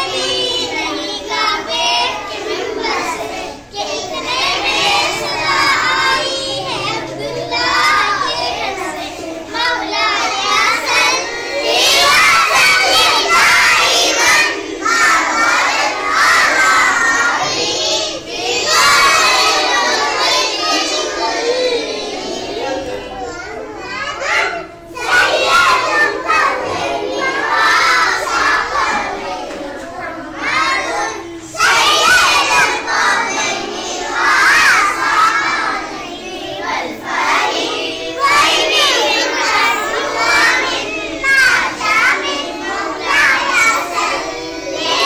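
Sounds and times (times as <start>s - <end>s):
children chanting in unison: 0.0s - 45.0s.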